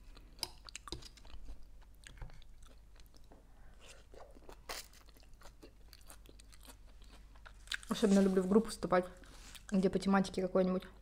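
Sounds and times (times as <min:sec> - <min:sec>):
chewing crisp salad: 0:00.0 - 0:09.8.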